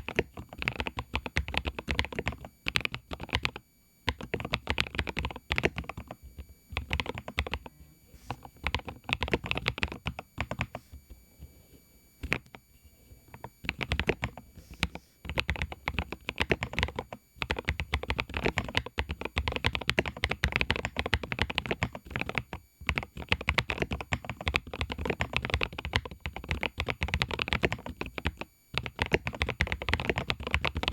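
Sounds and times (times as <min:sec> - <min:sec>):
mechanical keyboard typing: 0:00.0 - 0:07.7, 0:08.4 - 0:10.8, 0:13.4 - 0:14.4, 0:15.2 - 0:30.9.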